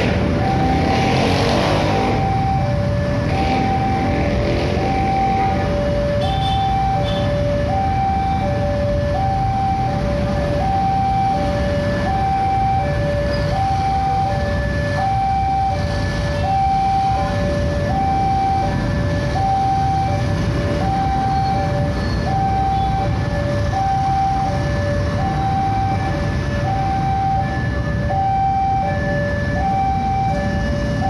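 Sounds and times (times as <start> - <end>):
level crossing alarm two-tone: 0.0 - 31.0.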